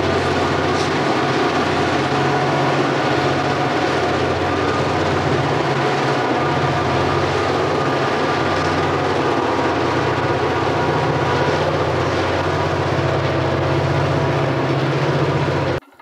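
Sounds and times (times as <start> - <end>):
freight cars running: 0.0 - 16.0
locomotive engines droning: 0.0 - 16.0.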